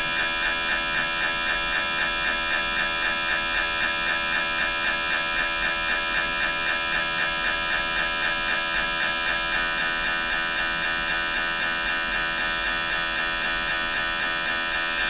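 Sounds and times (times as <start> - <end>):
mri scanner buzzing: 0.0 - 15.0.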